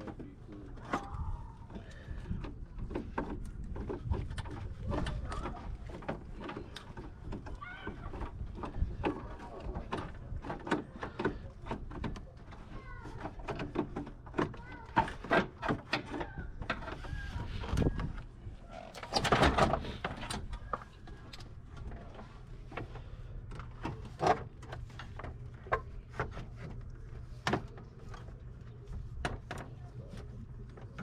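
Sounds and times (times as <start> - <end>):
faint voices: 0.0 - 31.0.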